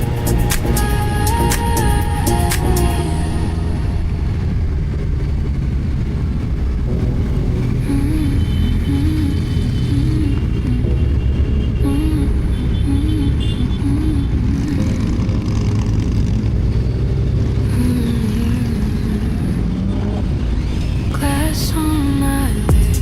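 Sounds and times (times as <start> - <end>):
motorcycle engine rumbling: 0.0 - 21.6.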